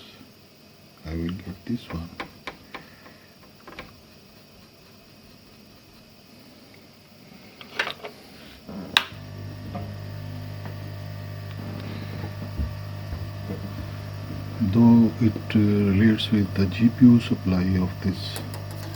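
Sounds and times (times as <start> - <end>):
blower motor humming: 1.2 - 18.9.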